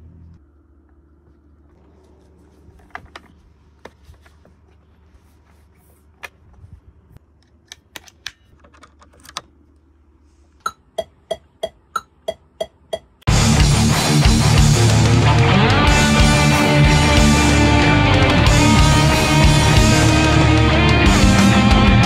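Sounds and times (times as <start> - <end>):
low amplifier hum: 0.0 - 22.0.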